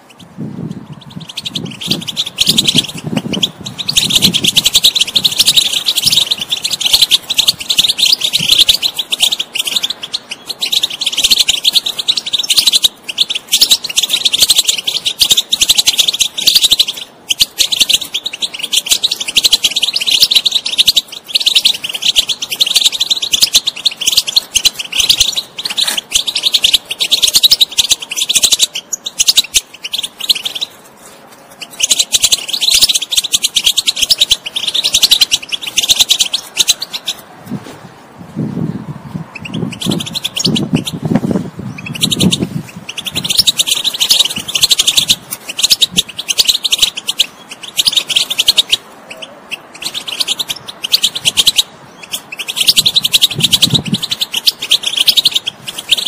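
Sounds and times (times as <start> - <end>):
finch twittering song: 0.0 - 37.2, 38.5 - 56.0.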